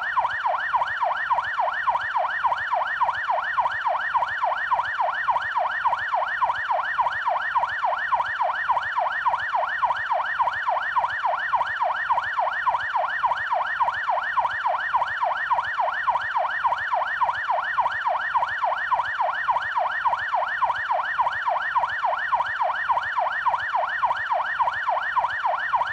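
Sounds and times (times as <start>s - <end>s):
police siren yelping: 0.0s - 25.9s.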